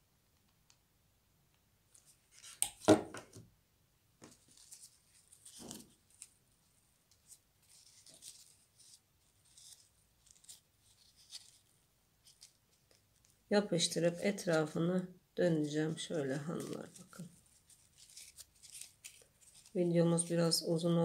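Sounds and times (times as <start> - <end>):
ribbon rustling: 1.9 - 3.0, 4.2 - 20.8.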